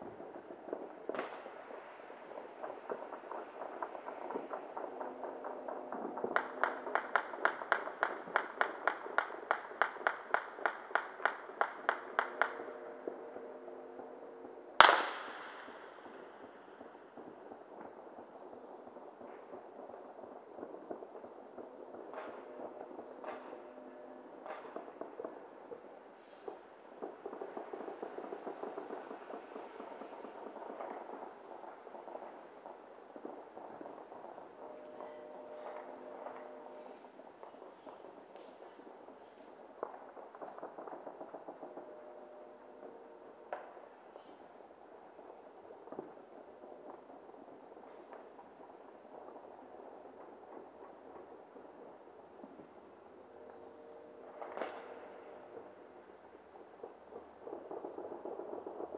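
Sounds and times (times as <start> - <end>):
distant fireworks crackling: 0.0 - 58.9.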